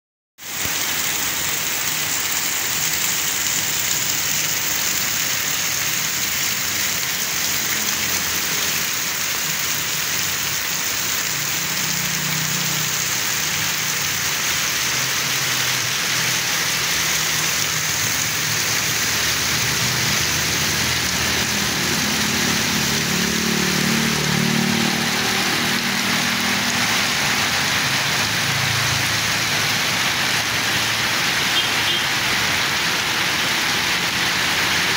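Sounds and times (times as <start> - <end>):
heavy rain pouring: 0.4 - 34.9
vehicles driving through water: 0.4 - 34.9.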